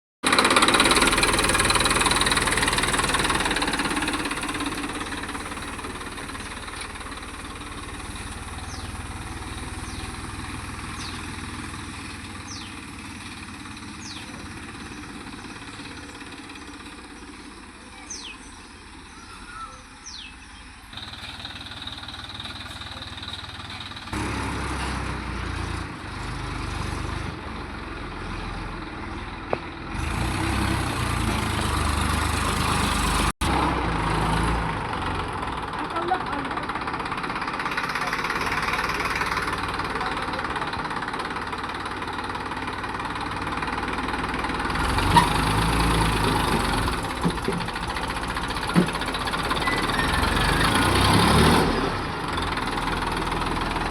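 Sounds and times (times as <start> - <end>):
tractor engine running: 0.2 - 53.9.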